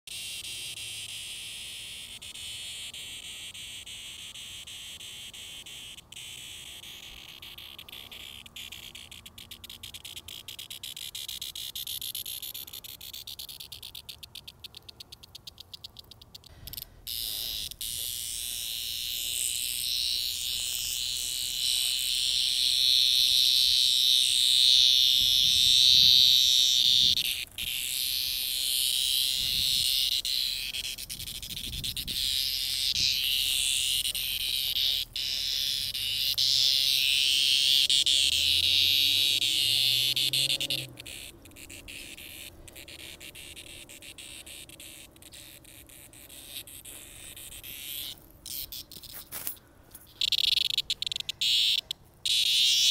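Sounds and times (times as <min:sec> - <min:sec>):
cicadas buzzing: 0:00.1 - 0:52.9.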